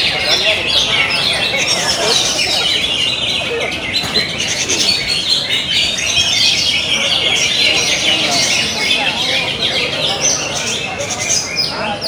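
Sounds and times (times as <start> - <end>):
many birds singing: 0.0 - 12.0.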